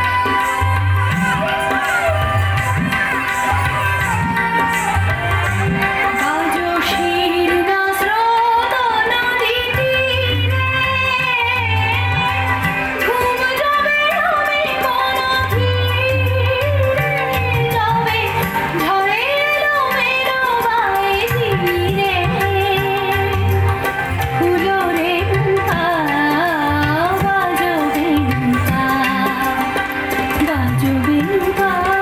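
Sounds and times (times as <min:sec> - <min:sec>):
woman singing: 0:00.0 - 0:03.2, 0:04.0 - 0:32.0.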